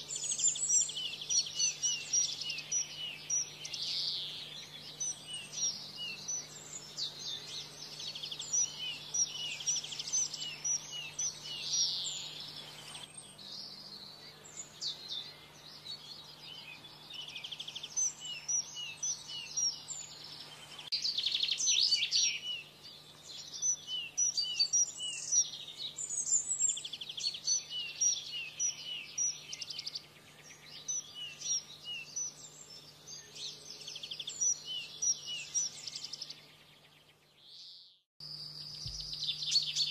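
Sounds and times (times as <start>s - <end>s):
canaries singing: 0.0s - 36.9s.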